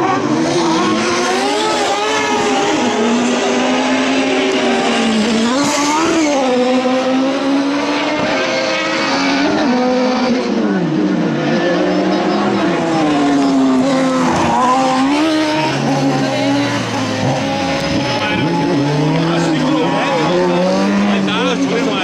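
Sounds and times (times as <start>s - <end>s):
racing engines revving: 0.0s - 22.0s.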